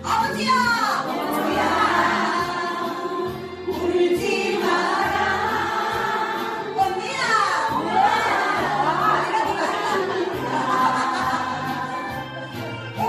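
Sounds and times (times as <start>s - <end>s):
voices singing together: 0.3s - 13.0s.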